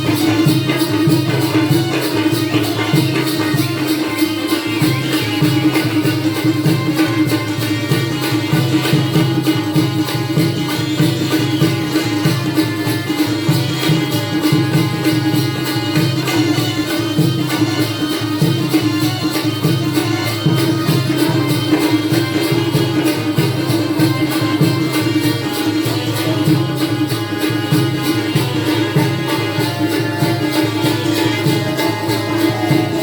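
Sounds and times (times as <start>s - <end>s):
hand drum rhythm: 0.0s - 33.0s
jingling cymbals: 0.0s - 33.0s.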